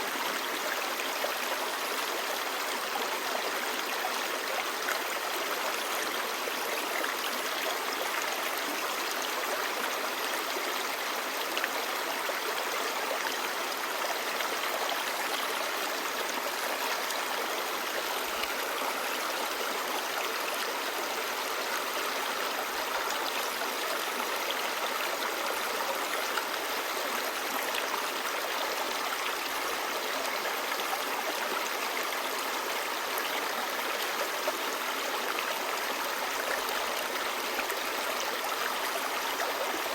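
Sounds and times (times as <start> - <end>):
stream babbling over rocks: 0.2 - 39.9.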